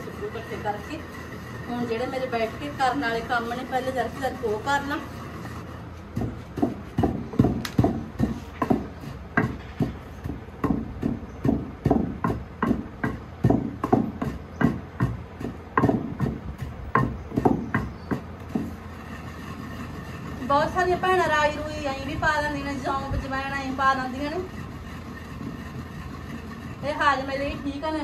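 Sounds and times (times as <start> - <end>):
pestle pounding seeds in mortar: 0.0 - 28.0.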